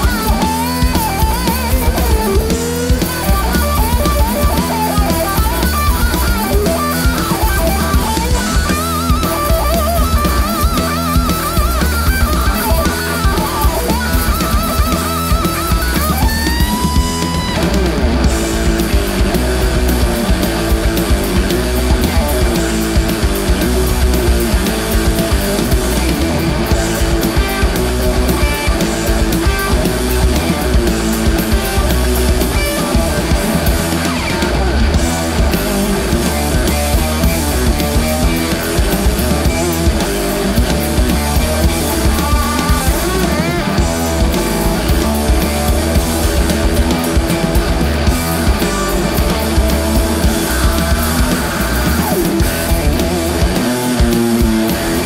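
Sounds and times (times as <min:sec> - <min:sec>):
bass guitar: 0:00.0 - 0:55.0
drum kit: 0:00.0 - 0:55.0
electric guitar lead lines: 0:00.0 - 0:55.0.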